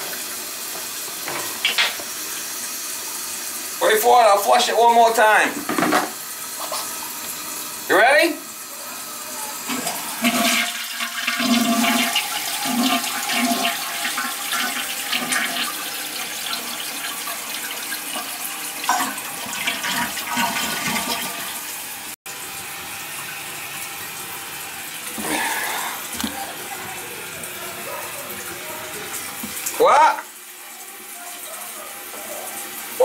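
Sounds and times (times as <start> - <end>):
toilet flushing: 0.0 - 33.0
toilet tank refilling: 0.0 - 33.0.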